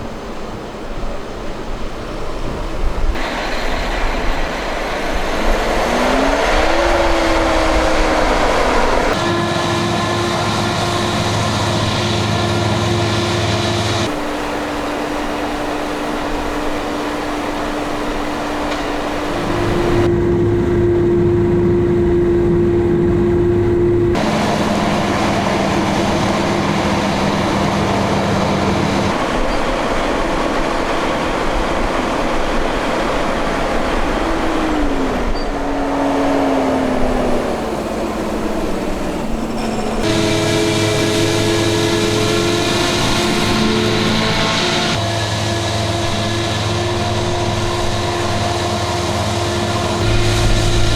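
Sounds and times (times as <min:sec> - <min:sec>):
harvester and tractor engines: 0:00.0 - 0:50.9
whining drive tones: 0:03.1 - 0:50.9
short falling whine: 0:03.2 - 0:50.9.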